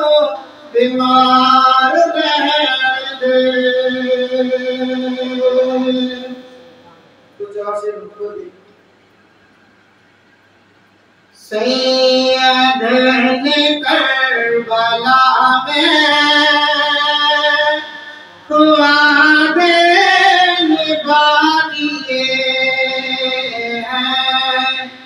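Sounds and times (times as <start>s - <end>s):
man singing unaccompanied: 0.0s - 6.6s, 11.4s - 25.0s.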